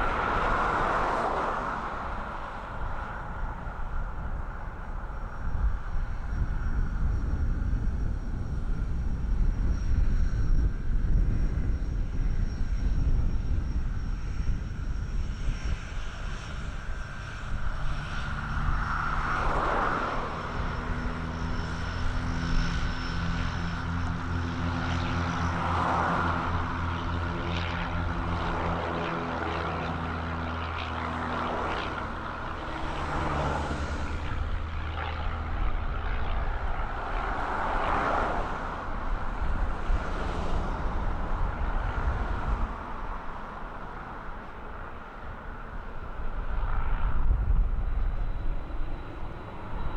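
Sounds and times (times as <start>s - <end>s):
propeller airplane passing: 0.0s - 49.9s.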